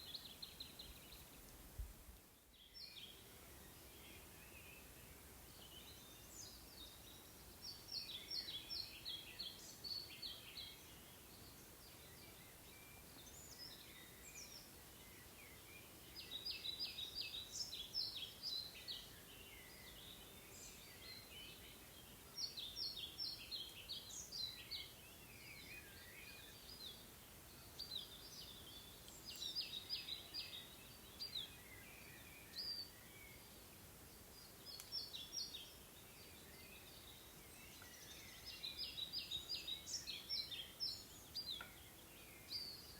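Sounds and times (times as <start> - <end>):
songbird singing: 0.0 - 1.6, 2.3 - 42.9
faint background hiss: 0.0 - 42.9.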